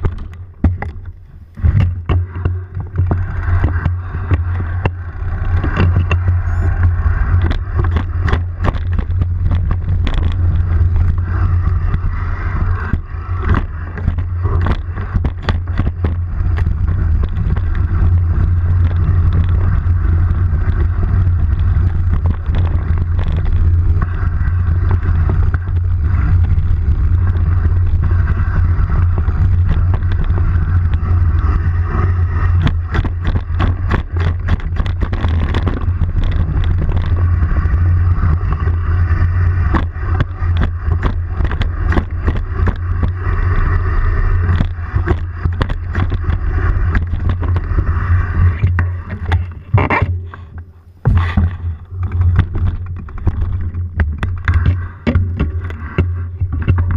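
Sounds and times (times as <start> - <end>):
bike rumbling over rough trail: 0.0 - 56.9.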